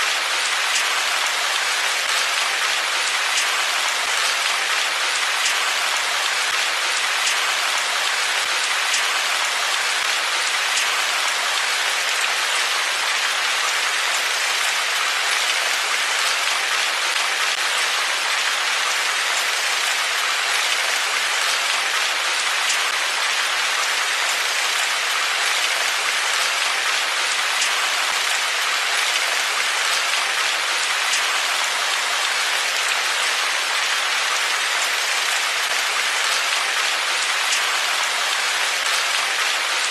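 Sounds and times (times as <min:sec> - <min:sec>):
steady rain falling: 0:00.0 - 0:39.9
ticks of raindrops: 0:00.1 - 0:39.9.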